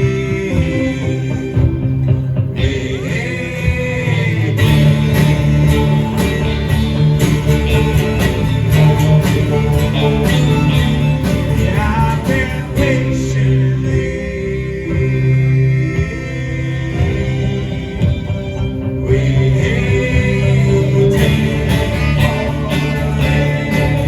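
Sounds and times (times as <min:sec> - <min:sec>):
drums beating: 0:00.0 - 0:24.0
guitar and sustained chords: 0:00.0 - 0:24.0.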